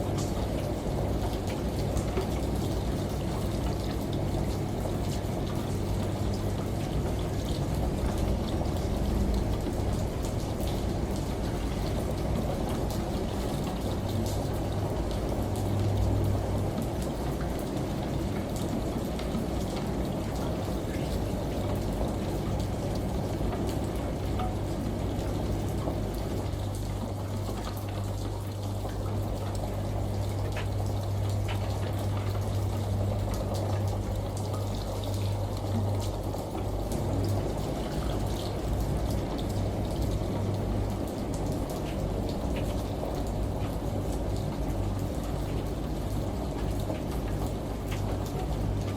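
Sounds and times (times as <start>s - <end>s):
running water: 0.0s - 48.9s
steady rain: 0.0s - 48.9s
washing machine hum: 0.0s - 48.9s.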